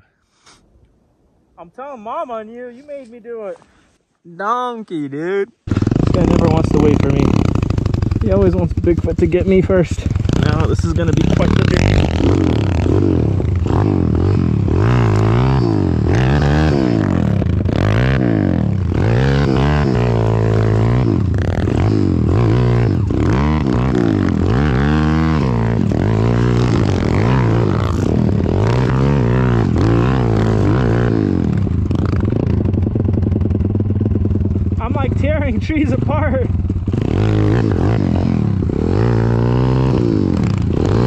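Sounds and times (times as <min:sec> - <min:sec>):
motorbike engine revving: 0:05.6 - 0:41.0.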